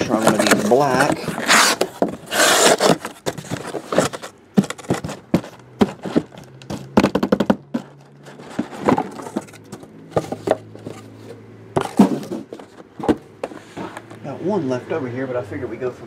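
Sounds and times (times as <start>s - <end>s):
cardboard boxes thunking on table: 0.0s - 11.0s, 11.7s - 14.0s
cardboard scraping: 0.0s - 14.2s.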